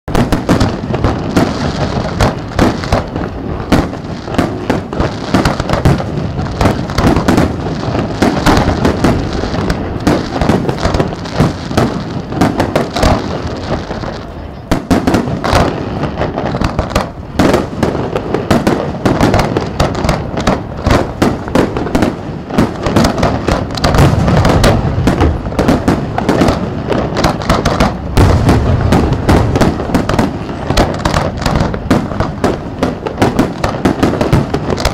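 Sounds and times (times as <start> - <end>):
fireworks bangs: 0.1 - 34.9.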